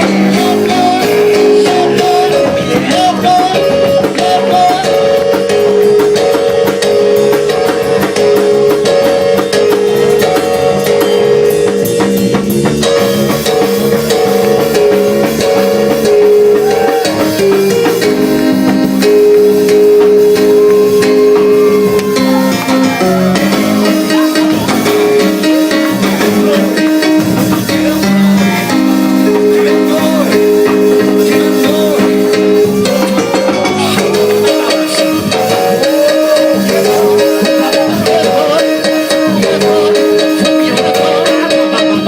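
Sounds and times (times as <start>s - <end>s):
church praise band music: 0.0s - 42.0s
drum kit beat: 0.0s - 42.0s
guitar: 0.0s - 42.0s.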